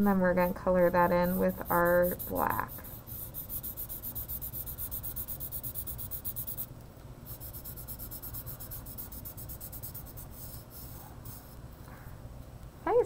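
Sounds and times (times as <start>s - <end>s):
marker scribbling on paper: 0.4s - 6.7s, 7.3s - 11.6s.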